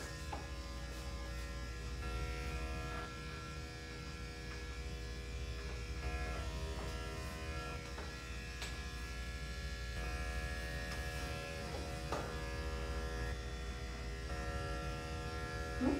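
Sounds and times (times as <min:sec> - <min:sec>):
electric clippers buzzing: 0:00.0 - 0:15.9.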